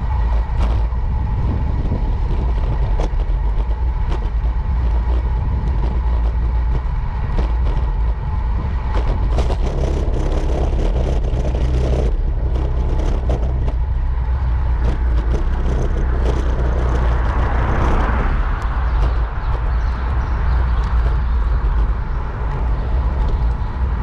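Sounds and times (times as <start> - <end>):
bike rattling over rough pavement: 0.0 - 24.0
wind and road rumble: 0.0 - 24.0.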